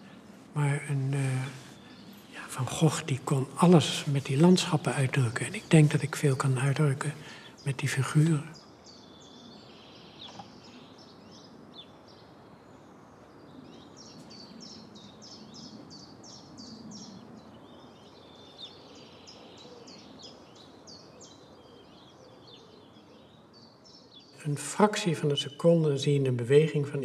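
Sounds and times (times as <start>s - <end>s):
low steady background noise: 0.0s - 27.0s.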